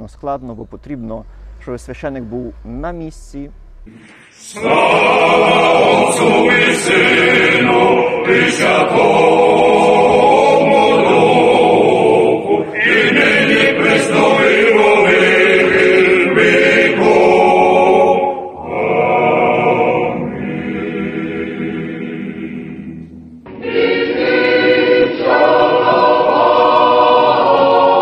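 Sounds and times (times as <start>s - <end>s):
men's choir singing a hymn: 3.9s - 28.0s.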